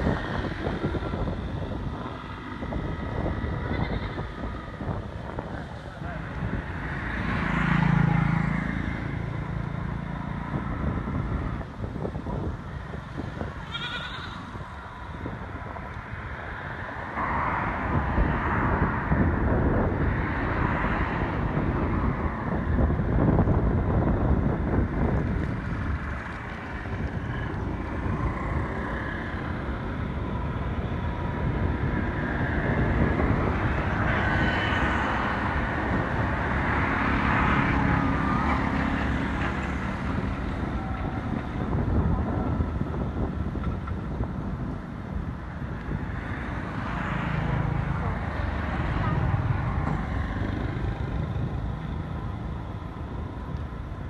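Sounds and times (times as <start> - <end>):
outdoor low rumble: 0.0 - 54.0.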